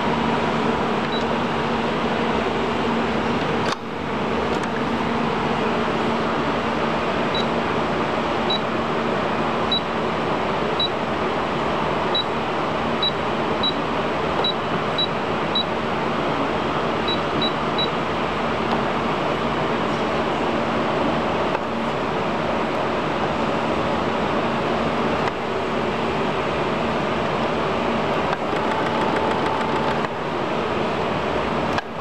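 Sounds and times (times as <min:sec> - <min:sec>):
steady whirring hum: 0:00.0 - 0:32.0.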